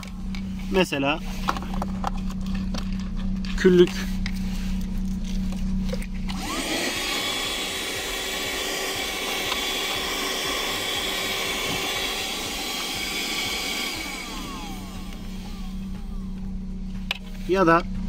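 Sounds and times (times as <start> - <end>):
handheld vacuum whining: 0.0 - 17.4.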